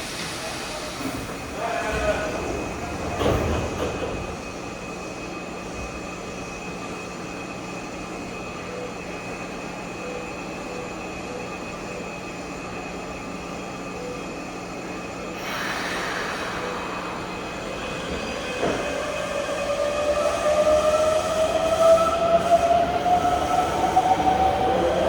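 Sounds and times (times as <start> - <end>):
electric train rumble: 0.0 - 25.0.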